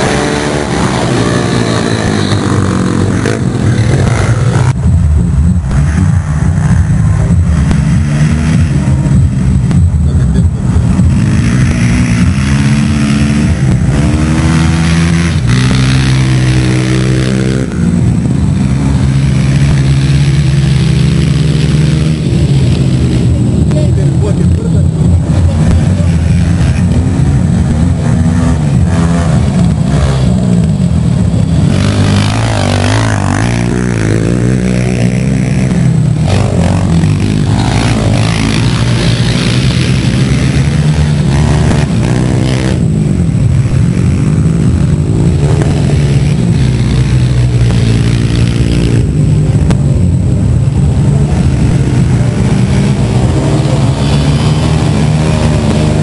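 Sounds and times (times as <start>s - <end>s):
quad engines revving: 0.0s - 56.0s.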